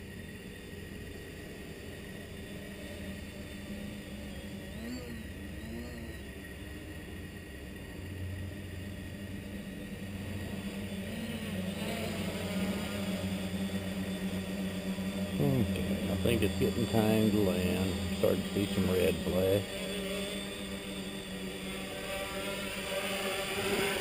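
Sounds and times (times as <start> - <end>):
quadcopter motors humming: 0.0 - 24.0.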